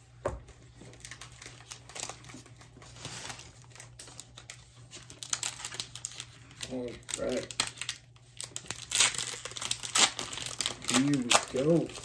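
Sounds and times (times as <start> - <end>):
foil wrapper crinkling: 0.8 - 12.0.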